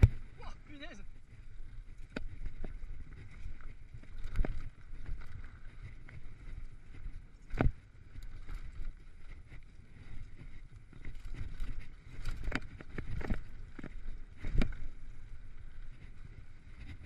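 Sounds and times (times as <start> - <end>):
bike tyres rumbling on dirt: 0.0 - 17.0
wind noise: 0.0 - 17.0.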